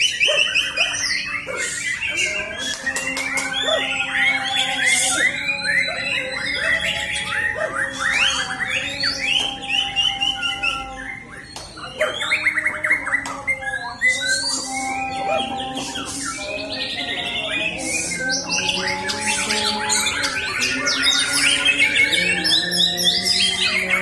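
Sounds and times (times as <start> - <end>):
other birdsong: 0.0 - 24.0
songbird whistles and trills: 0.0 - 24.0.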